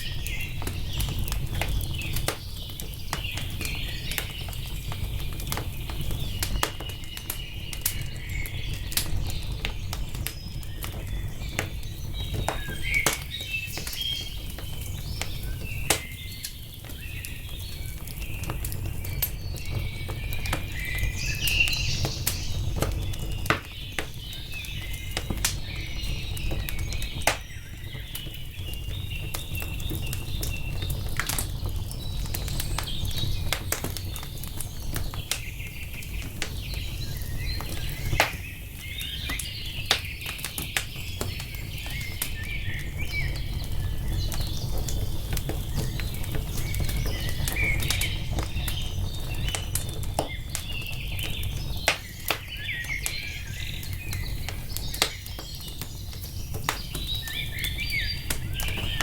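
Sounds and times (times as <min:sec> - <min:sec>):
small birds chirping: 0:00.0 - 0:59.0
wood fire crackling: 0:00.0 - 0:59.0.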